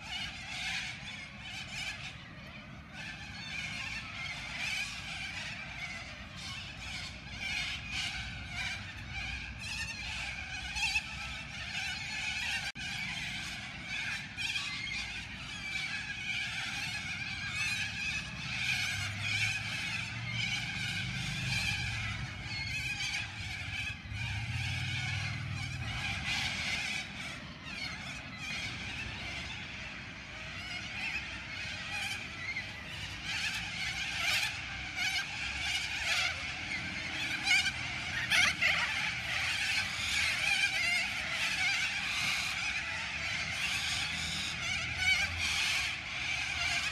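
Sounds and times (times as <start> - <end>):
flock of parrots calling: 0.0 - 46.9.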